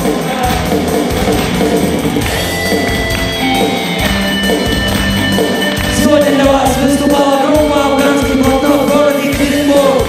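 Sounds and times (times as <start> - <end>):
instrumental rock music: 0.0 - 10.0.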